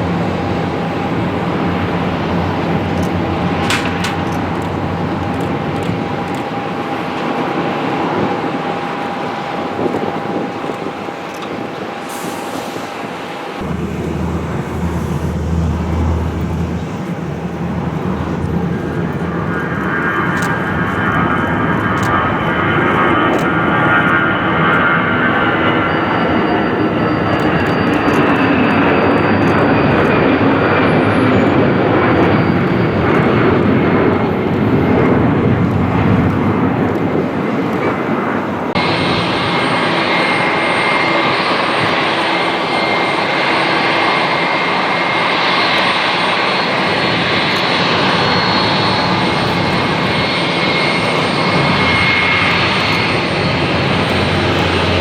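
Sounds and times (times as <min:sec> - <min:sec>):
jet engines roaring and whining: 0:00.0 - 0:55.0.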